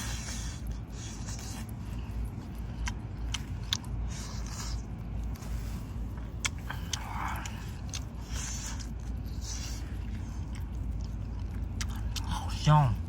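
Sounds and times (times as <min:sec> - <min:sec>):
chewing seafood: 0:00.0 - 0:13.0
steady low rumble: 0:00.0 - 0:13.0.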